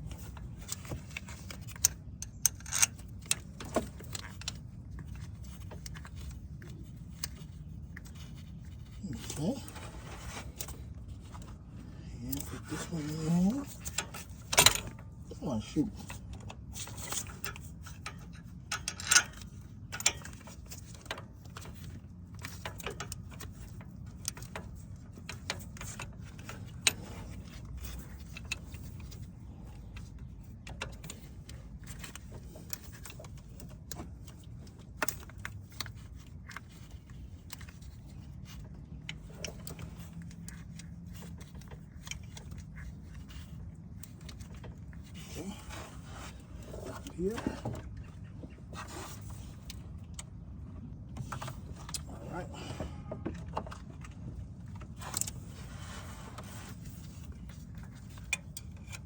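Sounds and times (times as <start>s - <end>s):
steady low hum: 0.0s - 59.0s
tools and fasteners clinking: 0.0s - 59.0s.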